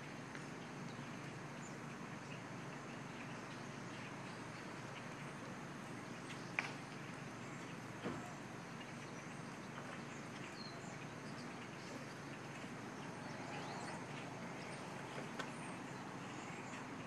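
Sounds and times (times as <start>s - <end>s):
blackbirds calling: 0.0s - 17.0s
steady background noise: 0.0s - 17.0s.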